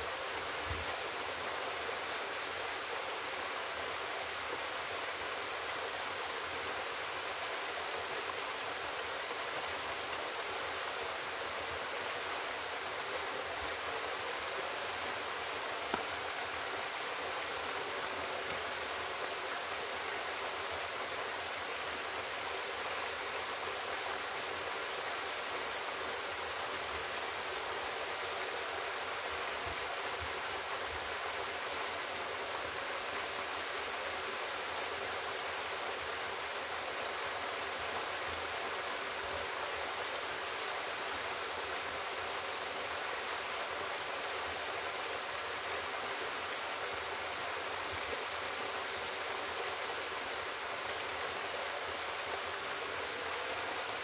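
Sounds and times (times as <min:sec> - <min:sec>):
waterfall rushing into rock pool: 0:00.0 - 0:54.0.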